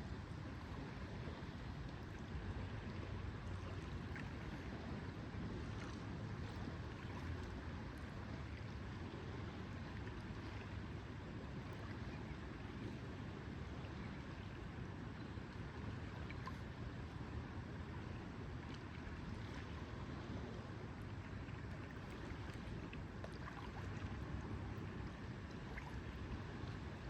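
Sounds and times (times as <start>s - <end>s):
lake water washing: 0.0s - 27.0s
wind: 0.0s - 27.0s.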